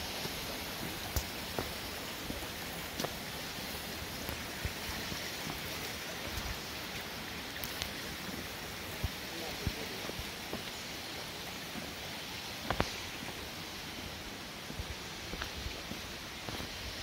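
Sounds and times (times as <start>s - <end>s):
stream water rushing over stones: 0.0s - 17.0s.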